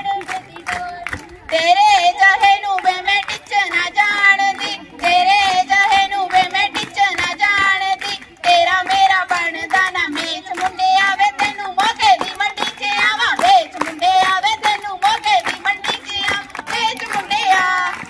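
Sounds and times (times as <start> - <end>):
hand-clapping: 0.0 - 18.0
voices singing folk couplets: 0.0 - 18.0.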